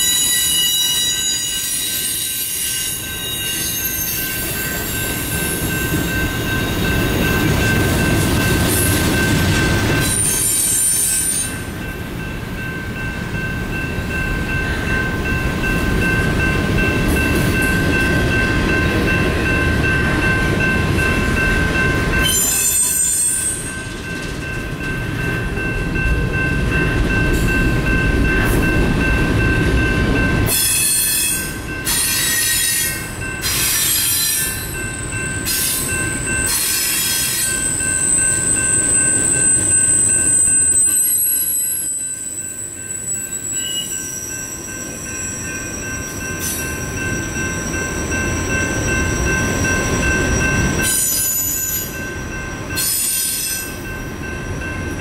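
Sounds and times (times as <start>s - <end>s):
train wheel squeal: 0.0s - 12.0s, 13.4s - 25.8s, 26.4s - 55.0s
train wheels rumbling on rails: 0.0s - 55.0s.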